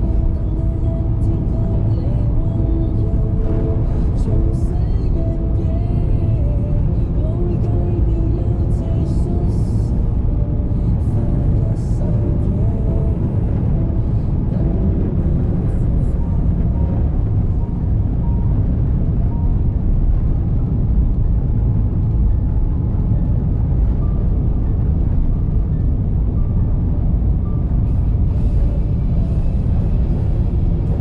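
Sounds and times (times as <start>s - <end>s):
car driving rumble: 0.0s - 31.0s
faint music: 0.0s - 31.0s
road and tyre noise: 0.0s - 31.0s.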